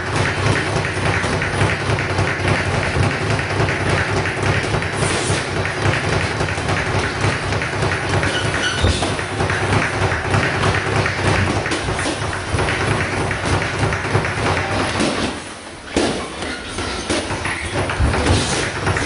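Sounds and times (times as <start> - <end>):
rapid tapping and thudding: 0.0 - 15.4, 16.0 - 19.0.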